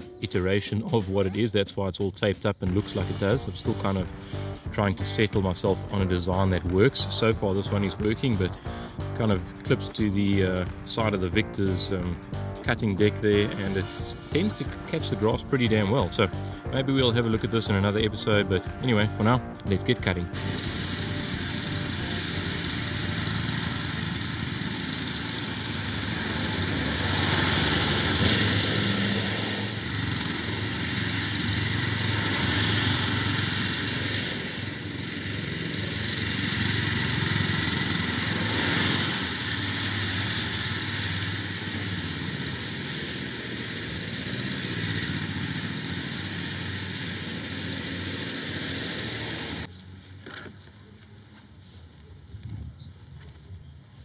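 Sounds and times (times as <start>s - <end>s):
lawn tractor engine mowing: 2.7s - 52.4s.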